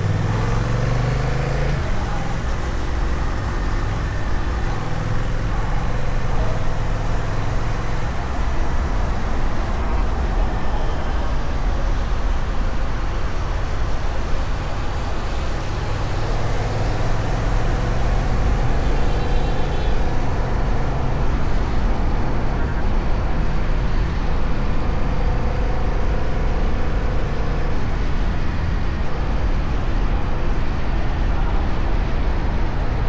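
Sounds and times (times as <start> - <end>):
motorcycle engine cruising: 0.0 - 30.6
wind and road noise: 0.0 - 33.0.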